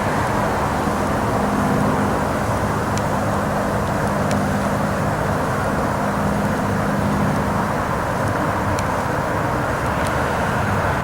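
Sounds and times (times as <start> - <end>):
light airplane engine droning: 0.0 - 11.0.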